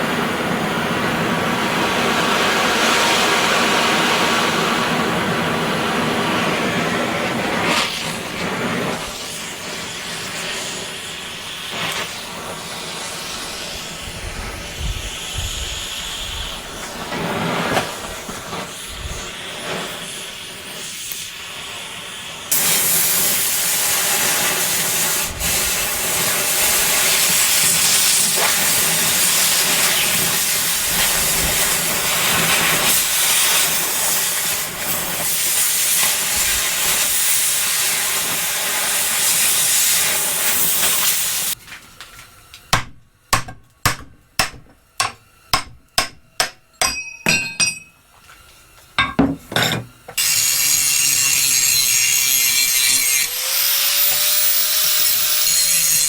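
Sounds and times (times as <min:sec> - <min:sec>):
hissing of steel plate cutting: 0:00.8 - 0:41.6, 0:49.0 - 0:56.0.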